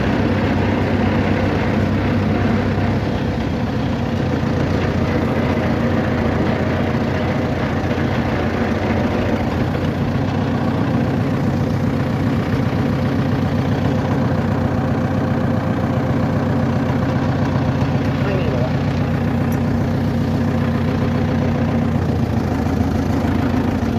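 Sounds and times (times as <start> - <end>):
vehicle engine running: 0.0 - 23.9.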